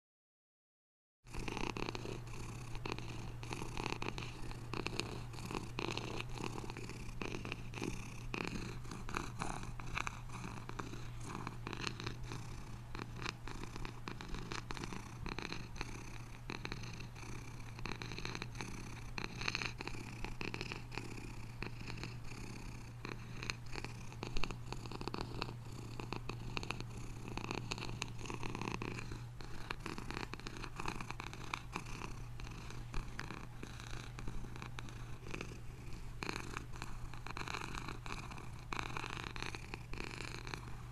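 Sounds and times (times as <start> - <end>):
cat purring: 1.3 - 40.9.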